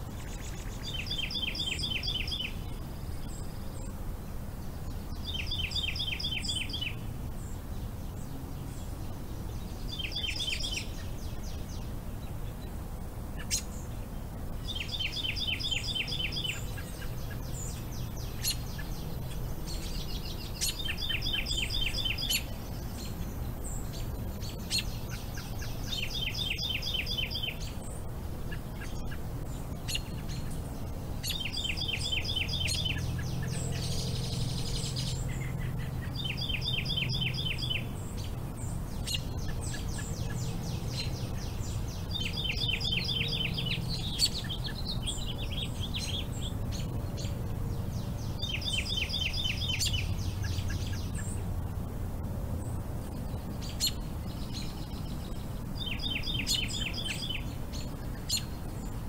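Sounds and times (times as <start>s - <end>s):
low steady rumble: 0.0s - 59.0s
songbird singing: 0.0s - 59.0s.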